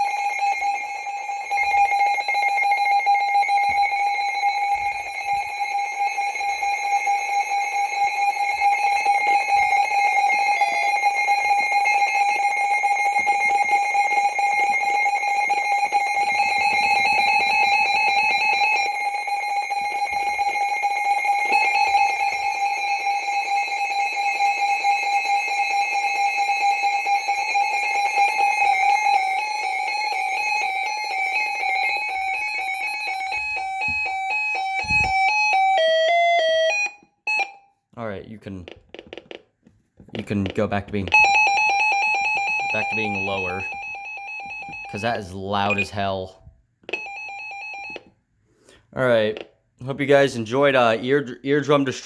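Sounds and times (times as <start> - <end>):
overlapping alarm tones: 0.0 - 37.8, 40.1 - 49.6.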